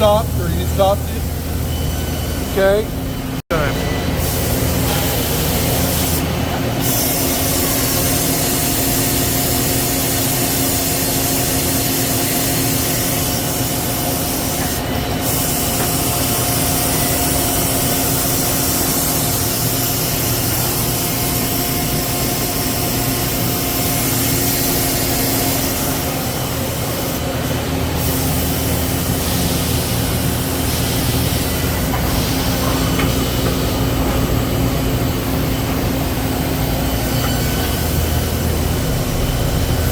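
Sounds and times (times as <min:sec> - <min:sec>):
lathe mechanical hum: 0:00.0 - 0:39.9.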